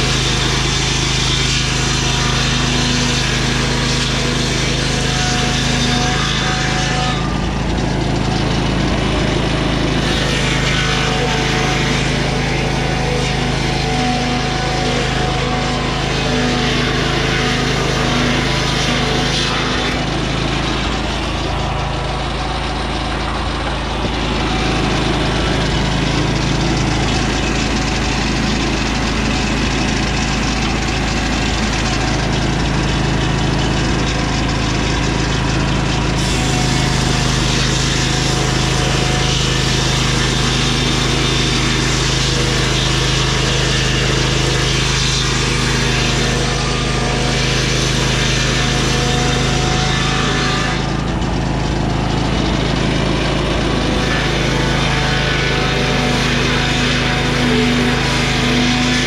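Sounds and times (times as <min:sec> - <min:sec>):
circular blade cutting wood: 0:00.0 - 0:59.0
sawmill engine running: 0:00.0 - 0:59.0.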